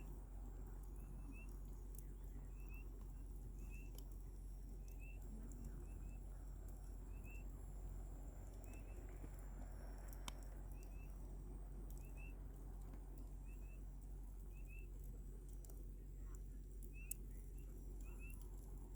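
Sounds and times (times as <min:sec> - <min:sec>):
campfire burning: 0:00.0 - 0:18.9.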